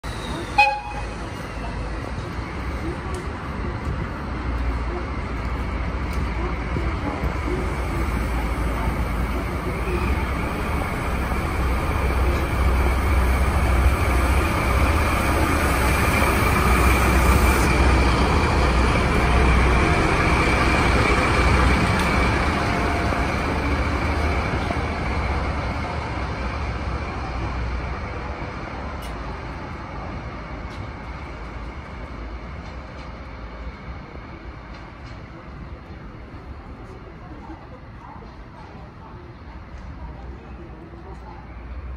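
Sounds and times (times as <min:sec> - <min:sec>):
diesel locomotive rumbling: 0:00.0 - 0:41.9.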